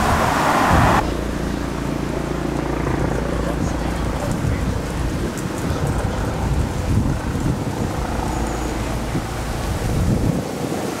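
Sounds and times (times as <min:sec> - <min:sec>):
vehicles on the road: 0:00.0 - 0:11.0
wind rumbling on microphone: 0:00.0 - 0:11.0.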